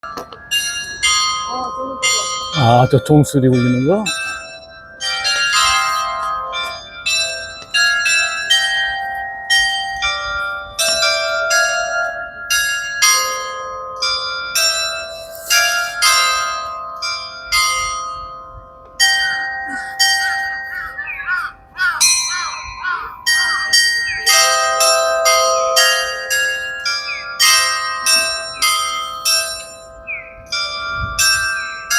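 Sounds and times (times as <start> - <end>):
tower bells playing melody: 0.0 - 31.9.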